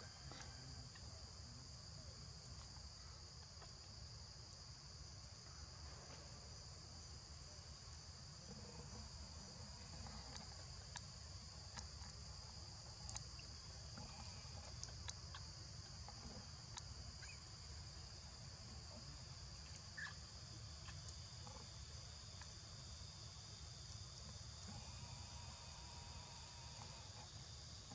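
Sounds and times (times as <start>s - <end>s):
high-pitched insect chorus: 0.0s - 27.9s.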